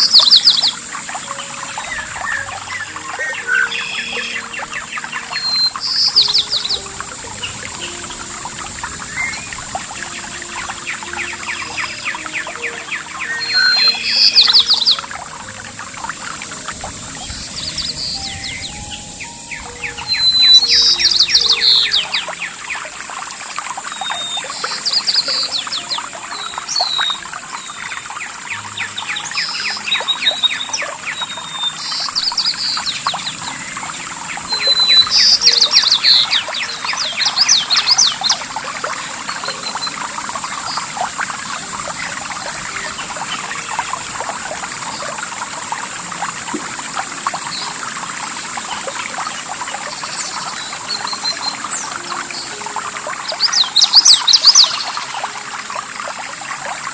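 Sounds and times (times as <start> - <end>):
birds chirping: 0.0 - 56.9
water splashing and trickling: 0.0 - 56.9.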